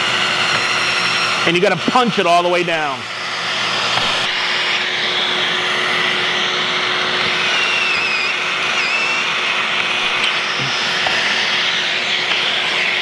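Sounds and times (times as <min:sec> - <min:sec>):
drill drilling: 0:00.0 - 0:13.0.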